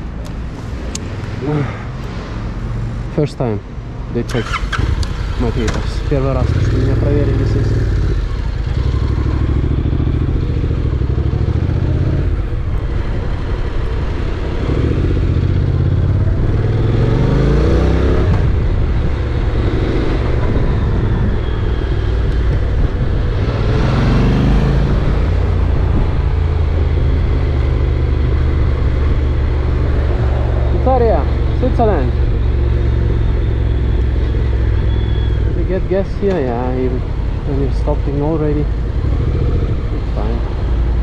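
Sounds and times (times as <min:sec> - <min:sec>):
motorcycle engine rumbling: 0:00.0 - 0:41.0.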